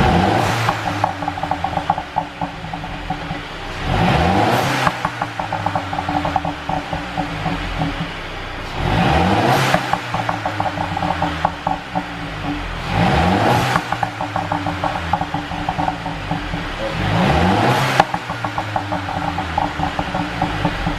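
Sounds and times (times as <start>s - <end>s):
car engine revving: 0.0s - 20.9s
exhaust crackling and popping: 0.0s - 20.9s.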